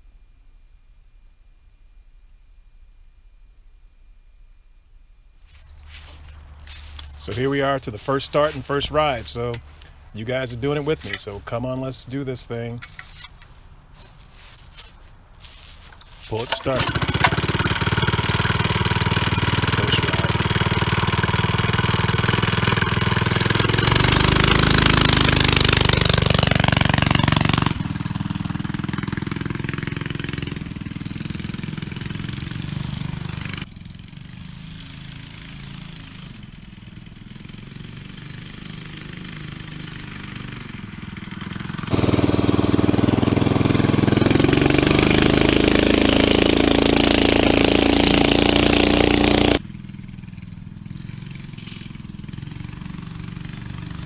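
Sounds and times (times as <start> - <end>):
motorbike engine revving: 5.5 - 54.0.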